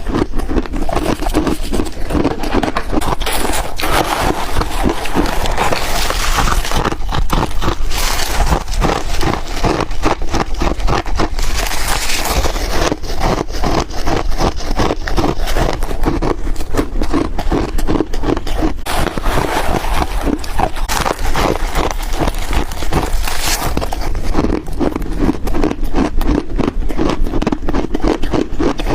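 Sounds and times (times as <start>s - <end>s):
person chewing crunchy ice: 0.0s - 28.9s.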